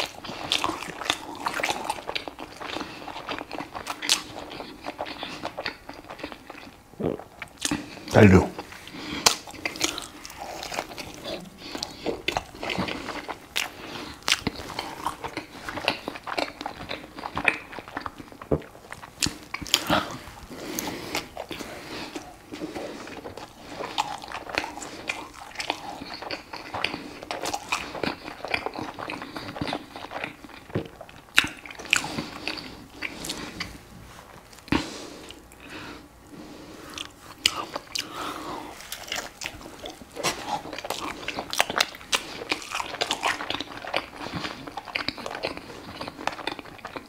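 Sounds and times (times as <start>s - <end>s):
person chewing a burger: 0.0s - 47.0s.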